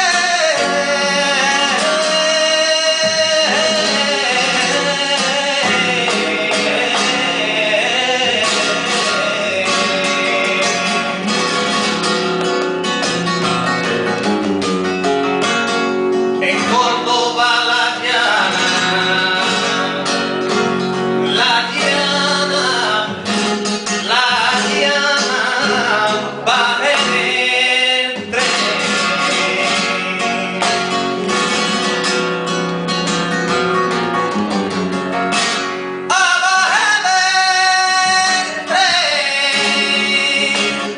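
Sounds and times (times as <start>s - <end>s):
man singing flamenco: 0.0s - 14.3s, 15.3s - 32.3s, 35.3s - 40.9s
flamenco guitar chords: 0.0s - 40.9s.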